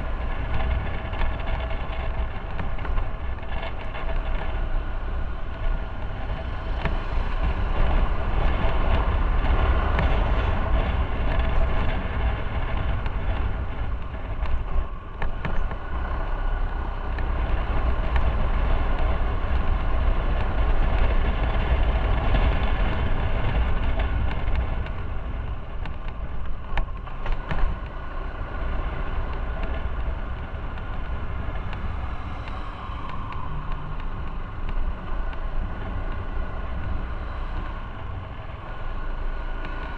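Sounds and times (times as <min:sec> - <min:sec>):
road noise: 0:00.0 - 0:39.9
wind rumble on microphone: 0:00.0 - 0:39.9.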